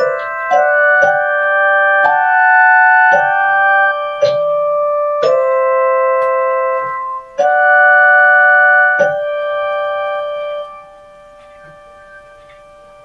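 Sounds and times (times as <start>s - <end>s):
keyboard chords: 0.0s - 13.0s.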